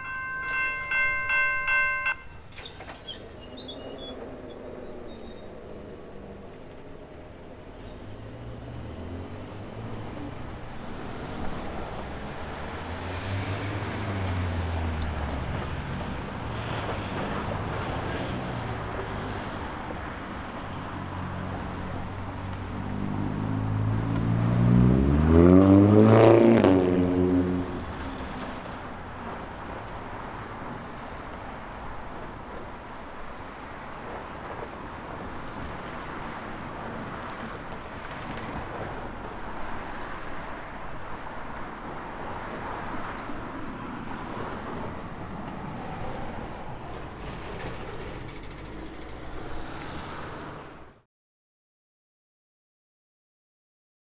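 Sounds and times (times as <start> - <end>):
traffic background noise: 0.0 - 51.1.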